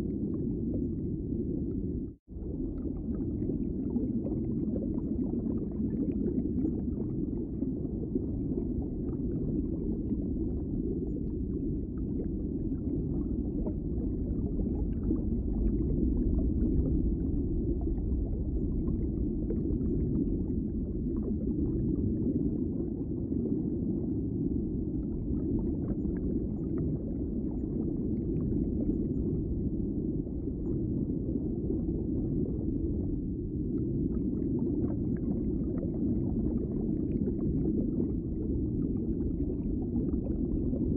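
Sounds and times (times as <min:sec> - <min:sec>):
low underwater rumble: 0:00.0 - 0:40.9
water bubbling: 0:02.4 - 0:33.0, 0:34.0 - 0:40.9.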